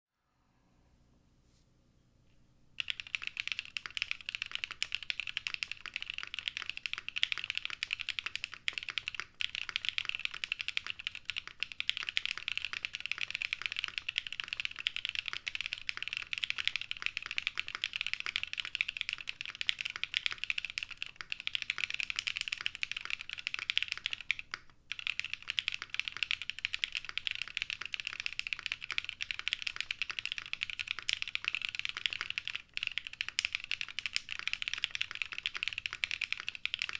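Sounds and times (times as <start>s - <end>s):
fast mechanical keyboard typing: 2.8s - 36.9s.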